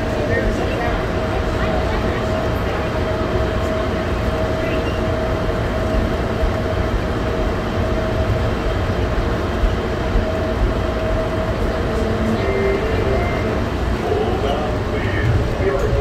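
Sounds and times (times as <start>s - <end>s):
faint steady whine: 0.0s - 16.0s
train rumbling in tunnel: 0.0s - 16.0s.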